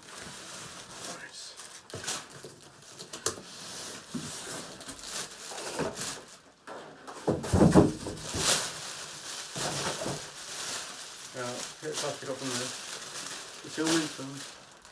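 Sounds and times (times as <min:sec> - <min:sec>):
packaging handling knocks and rustles: 0:00.0 - 0:14.9.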